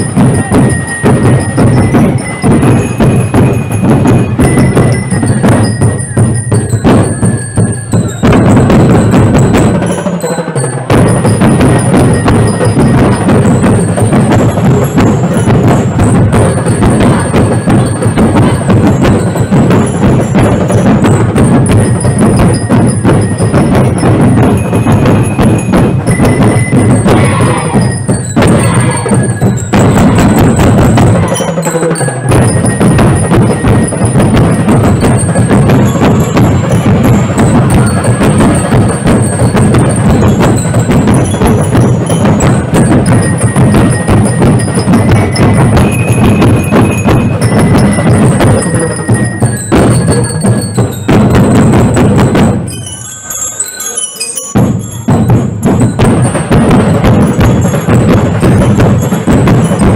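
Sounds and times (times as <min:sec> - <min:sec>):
loud dance music with drums: 0:00.0 - 0:59.9.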